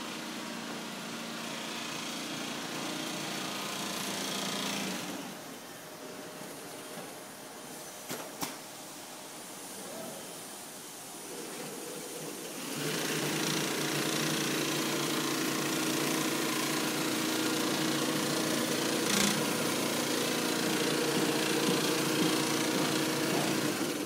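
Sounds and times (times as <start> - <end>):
quilting machine humming: 0.0 - 7.5, 11.0 - 24.0.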